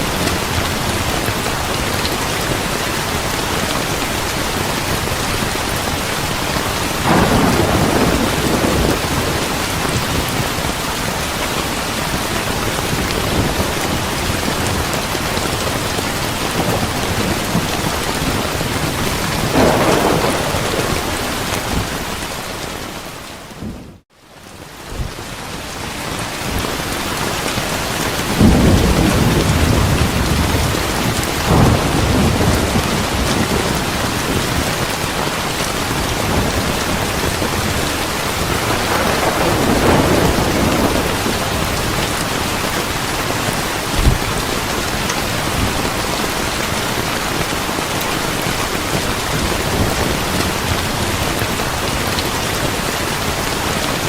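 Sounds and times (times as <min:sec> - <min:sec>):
thunder rumbling: 0:00.0 - 0:24.0, 0:27.5 - 0:54.0
heavy rain falling: 0:00.0 - 0:54.0.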